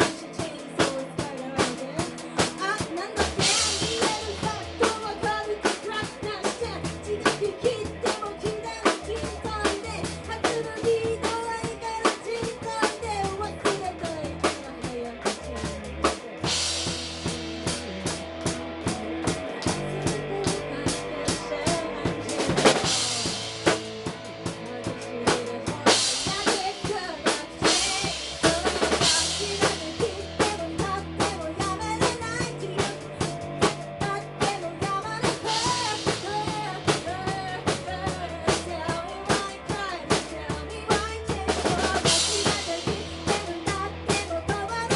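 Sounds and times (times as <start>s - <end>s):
drum kit: 0.0s - 44.9s
rock band music: 0.0s - 44.9s.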